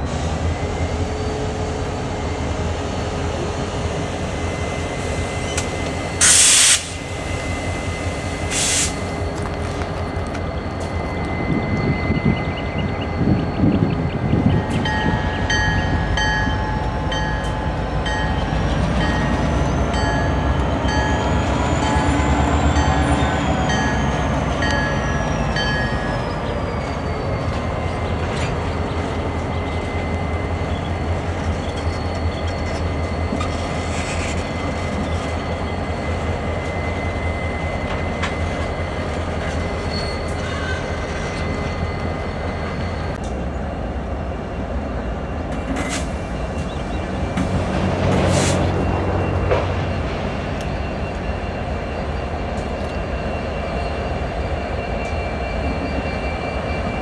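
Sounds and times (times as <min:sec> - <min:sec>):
locomotive engines rumbling: 0:00.0 - 0:57.0.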